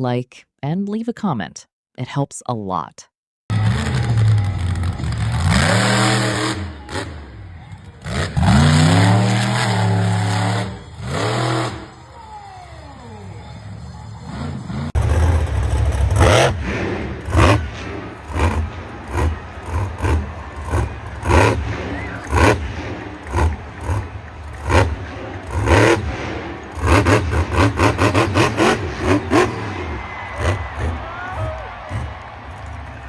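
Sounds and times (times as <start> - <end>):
monster truck engine rumbling: 3.5 - 33.0.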